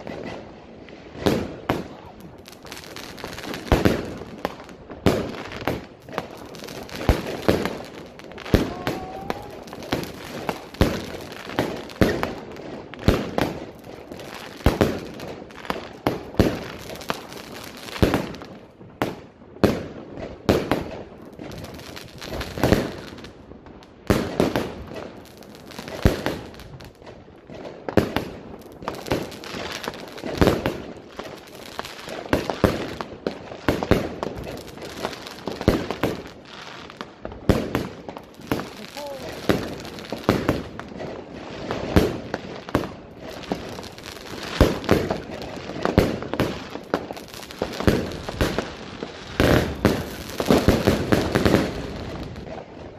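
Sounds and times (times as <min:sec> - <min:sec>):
fireworks banging: 0:00.0 - 0:23.4, 0:24.0 - 0:52.9.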